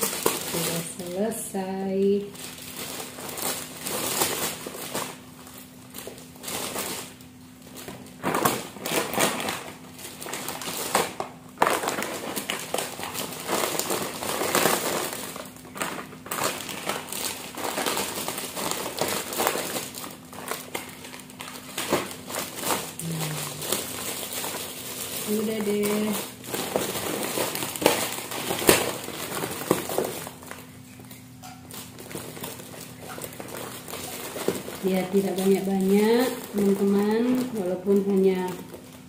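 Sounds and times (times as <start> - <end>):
faint steady hum: 0.0 - 39.0
plastic bags crinkling: 0.0 - 39.0.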